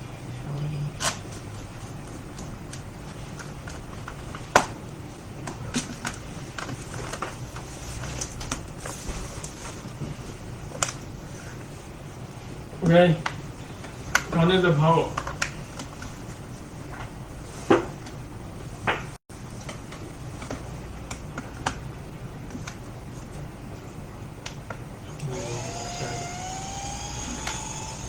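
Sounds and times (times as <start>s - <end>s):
laptop fans whining: 1.0s - 28.0s.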